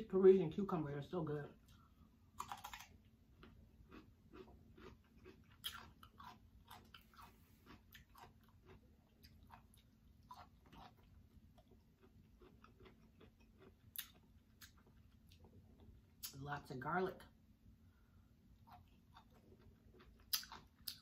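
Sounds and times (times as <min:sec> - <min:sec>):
person chewing cucumber: 0:01.6 - 0:16.4, 0:18.0 - 0:21.0.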